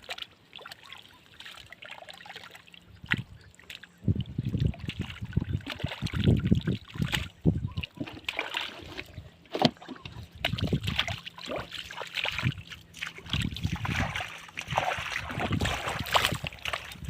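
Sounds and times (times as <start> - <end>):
splashing shallow water: 0.0 - 17.0.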